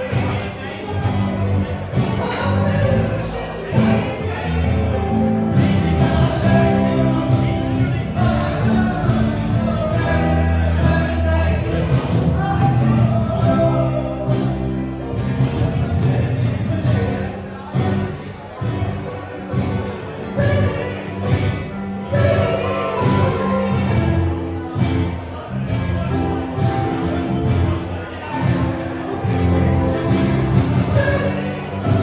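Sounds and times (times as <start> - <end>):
person singing: 0.0 - 18.9, 19.6 - 32.0
bass guitar: 0.0 - 32.0.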